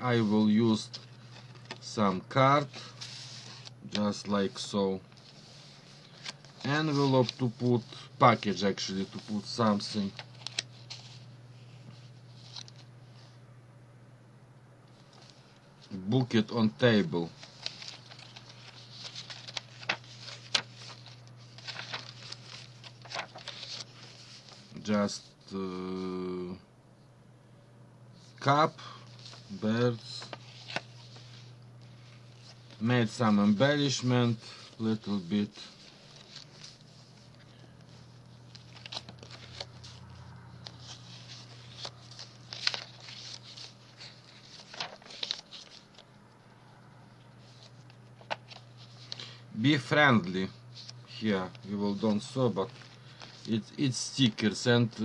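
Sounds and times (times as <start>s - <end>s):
paper rustling: 0.0s - 12.9s, 14.9s - 25.4s, 28.4s - 46.1s, 47.4s - 49.3s, 50.7s - 55.0s
steady low hum: 0.0s - 55.0s.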